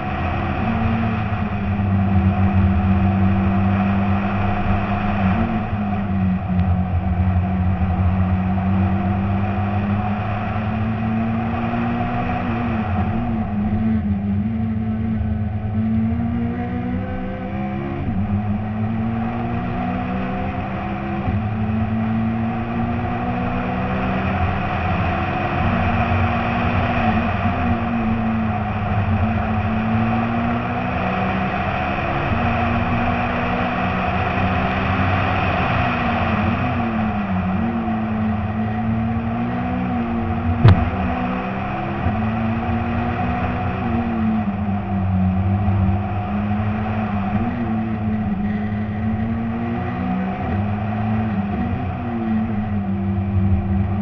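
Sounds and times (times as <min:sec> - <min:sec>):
rally car engine running: 0:00.0 - 0:54.0
road and wind noise: 0:00.0 - 0:54.0.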